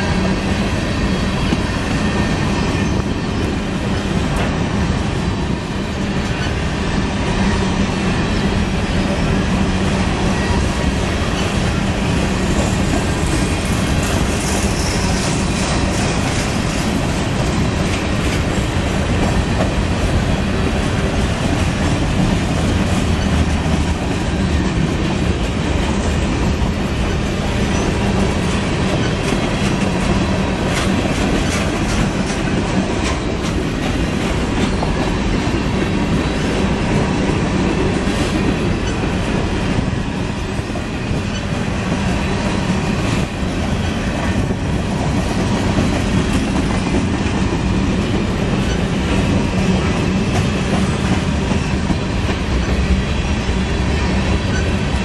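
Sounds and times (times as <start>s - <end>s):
freight train rumbling past: 0.0s - 55.0s
steel wheels clattering on rails: 0.0s - 55.0s.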